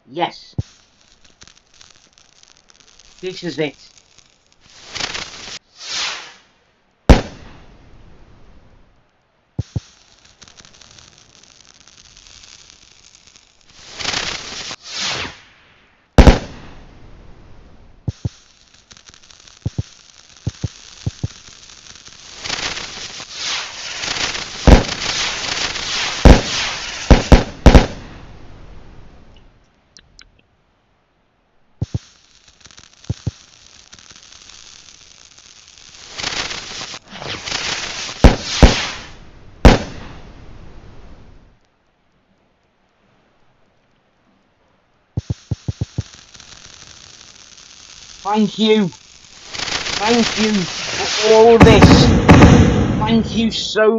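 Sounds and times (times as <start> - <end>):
fireworks hissing: 0.0 - 8.7, 9.5 - 29.4, 31.8 - 41.5, 45.2 - 53.9
fireworks crackling: 0.0 - 29.6, 31.8 - 41.7, 45.1 - 53.9
fireworks bangs: 0.3 - 8.0, 9.6 - 29.2, 31.8 - 41.5, 45.2 - 53.9.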